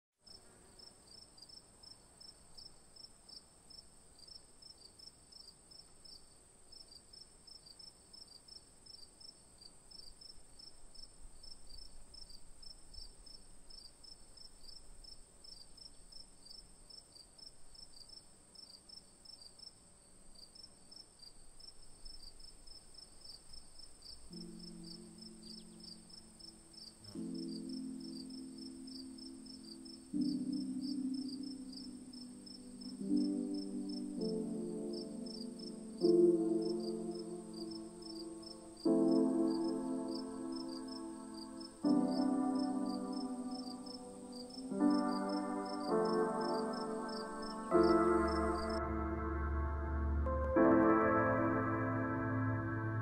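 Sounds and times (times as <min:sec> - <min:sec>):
insect chirping: 0:00.2 - 0:53.0.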